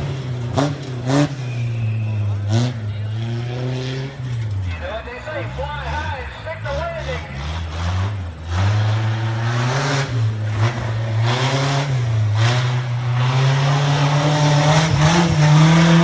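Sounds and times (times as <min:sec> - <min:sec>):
pickup engine revving hard: 0:00.0 - 0:16.0.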